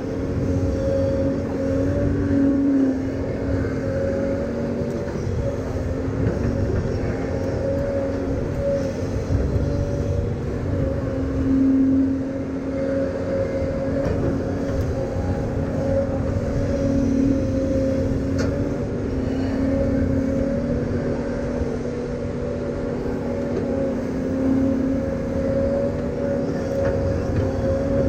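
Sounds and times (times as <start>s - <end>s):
construction machine engine: 0.0s - 28.0s.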